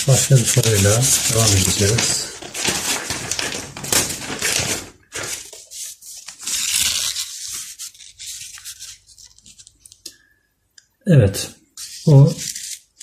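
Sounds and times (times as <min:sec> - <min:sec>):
paper pages rustling: 0:00.0 - 0:10.0, 0:11.8 - 0:13.0.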